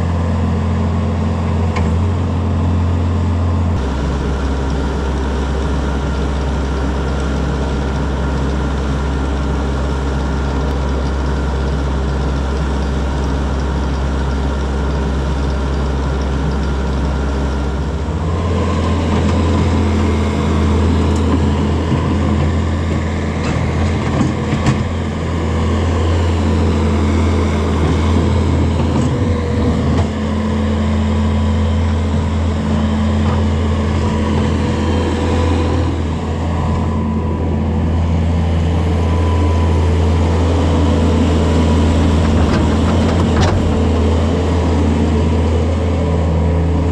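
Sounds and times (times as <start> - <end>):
skid steer engine running: 0.0 - 46.9.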